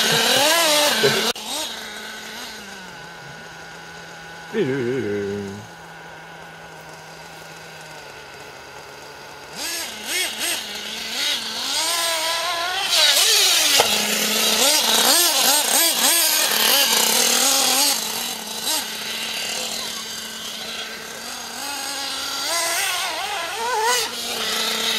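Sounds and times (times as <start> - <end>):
small model engine revving: 0.0 - 24.9.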